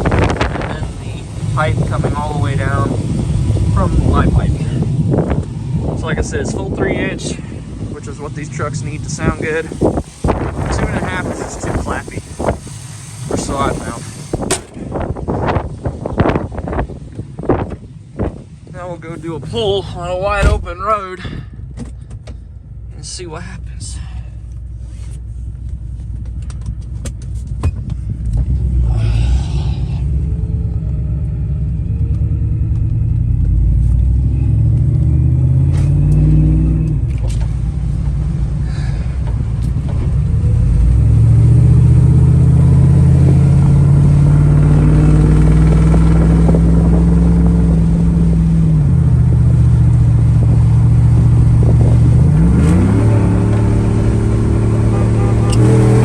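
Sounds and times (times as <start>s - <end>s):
truck engine accelerating hard: 0.0s - 22.1s, 26.2s - 56.0s.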